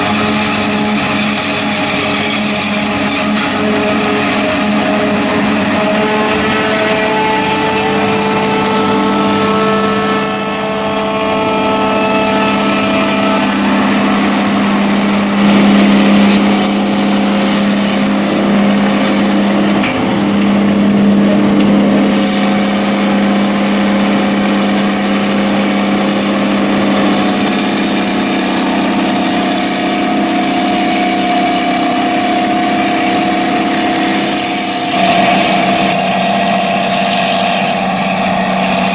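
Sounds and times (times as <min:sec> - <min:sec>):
tractor diesel engines running: 0:00.0 - 0:38.9
whining machinery: 0:00.0 - 0:38.9.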